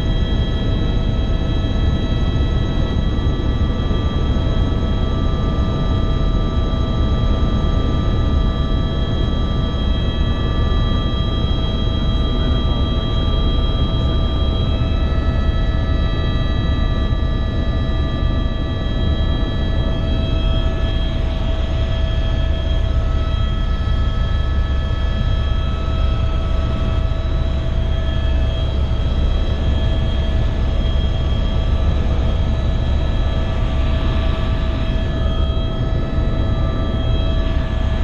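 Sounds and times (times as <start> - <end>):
helicopter rotor drone: 0.0 - 38.0.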